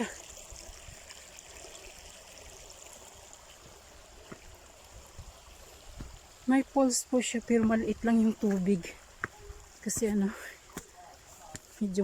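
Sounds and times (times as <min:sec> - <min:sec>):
small waterfall running faintly: 0:00.0 - 0:12.0.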